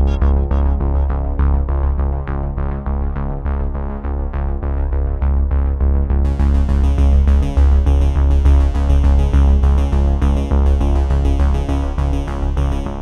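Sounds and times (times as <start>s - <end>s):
pulsing bass beat: 0.0s - 13.0s
synthesizer: 0.0s - 13.0s.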